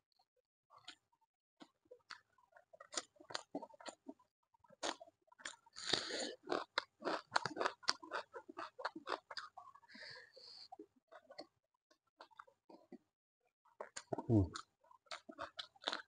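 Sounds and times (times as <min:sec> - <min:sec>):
chewing with smacking and crunches: 0:00.7 - 0:16.0.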